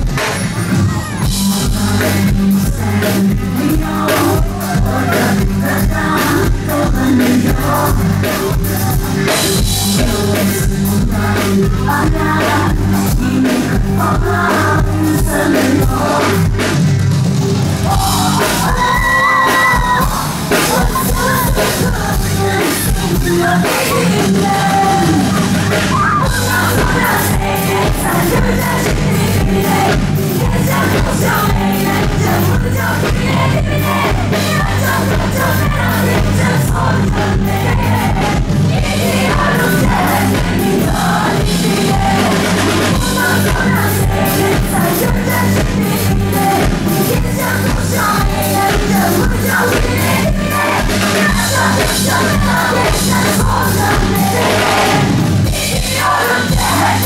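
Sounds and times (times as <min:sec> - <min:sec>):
drum kit dance beat: 0:00.0 - 0:57.0
live pop band: 0:00.0 - 0:57.0
woman singing into a microphone: 0:01.2 - 0:16.7, 0:17.9 - 0:57.0.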